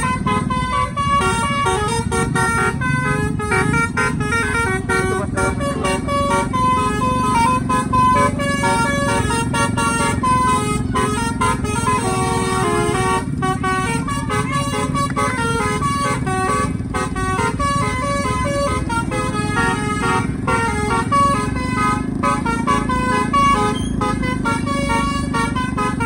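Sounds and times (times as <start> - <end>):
bus horn playing a tune: 0.0 - 26.0
low steady rumble: 0.0 - 26.0.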